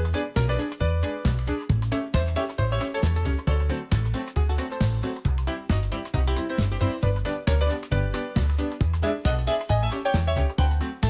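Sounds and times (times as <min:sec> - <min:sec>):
bouncy background music: 0:00.0 - 0:11.0.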